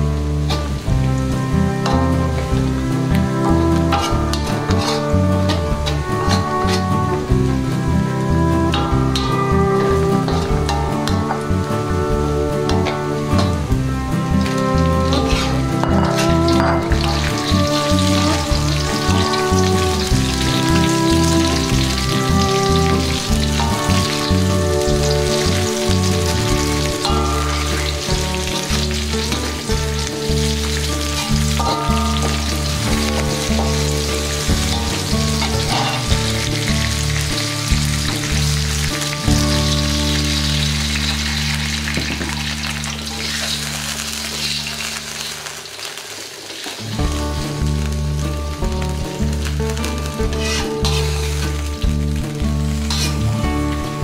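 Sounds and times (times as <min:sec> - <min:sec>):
background music with bass line: 0:00.0 - 0:45.4, 0:46.8 - 0:54.0
water pouring: 0:00.0 - 0:53.9
oil sizzling in a wok: 0:00.0 - 0:54.0.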